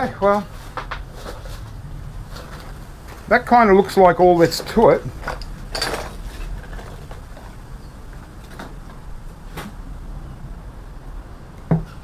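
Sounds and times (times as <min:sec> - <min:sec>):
low steady background hum: 0:00.0 - 0:12.0.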